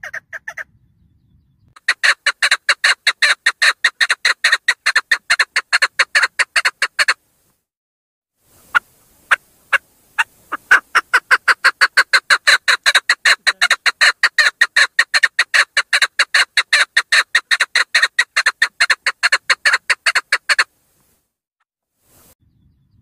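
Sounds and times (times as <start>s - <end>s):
partridge calling: 0.0s - 7.2s, 8.6s - 20.7s.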